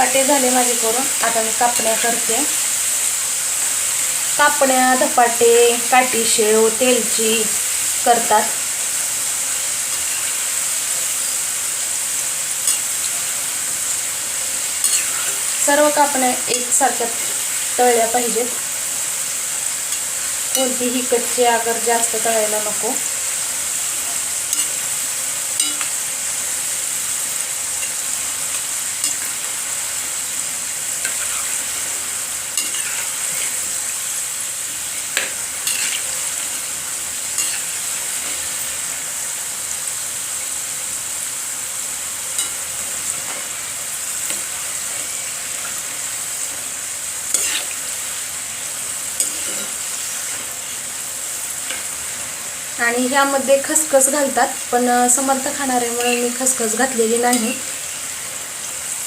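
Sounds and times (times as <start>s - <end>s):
dough sizzling in hot oil: 0.0s - 59.0s.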